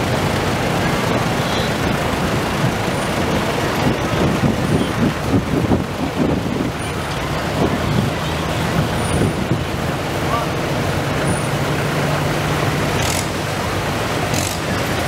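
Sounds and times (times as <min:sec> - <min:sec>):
tractor engine running: 0:00.0 - 0:15.0
utility vehicle engine running: 0:00.0 - 0:15.0.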